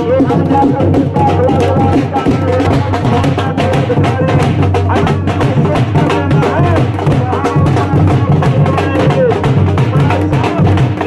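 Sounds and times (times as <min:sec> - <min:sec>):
barrel drums beaten with sticks: 0:00.0 - 0:11.0.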